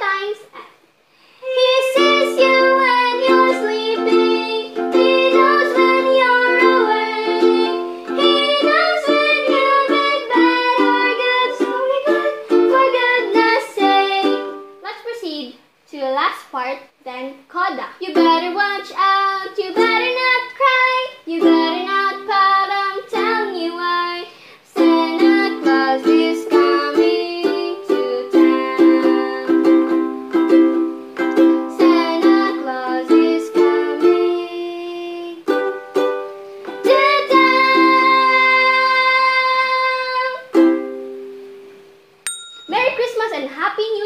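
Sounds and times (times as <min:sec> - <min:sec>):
girl singing: 0:00.0 - 0:40.8, 0:42.7 - 0:44.0
ukulele strumming: 0:01.7 - 0:14.8, 0:18.1 - 0:18.8, 0:19.6 - 0:24.0, 0:24.8 - 0:39.2, 0:40.2 - 0:43.3.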